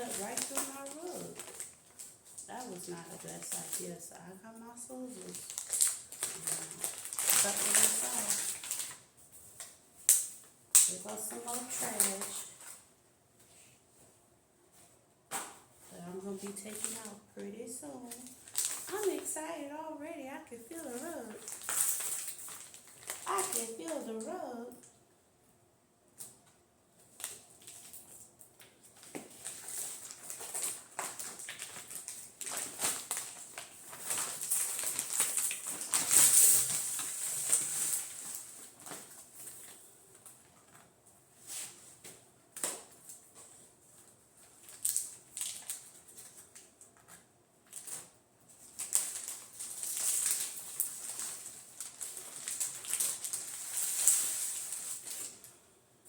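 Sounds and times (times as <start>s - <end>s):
plastic wrapping crinkling: 0.0s - 12.9s, 15.3s - 25.0s, 26.2s - 55.6s.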